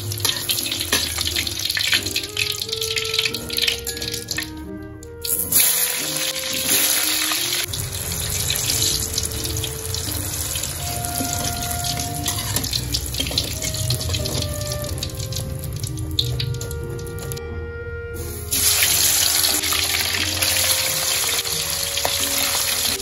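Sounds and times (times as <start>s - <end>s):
vegetables deep-frying in oil: 0.0s - 4.6s, 5.2s - 17.4s, 18.5s - 23.0s.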